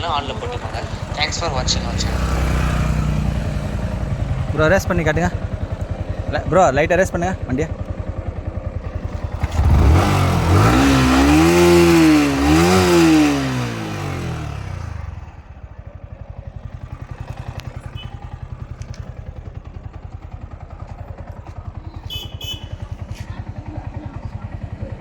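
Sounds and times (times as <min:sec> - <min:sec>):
motorcycle engine revving and idling: 0:00.0 - 0:25.0.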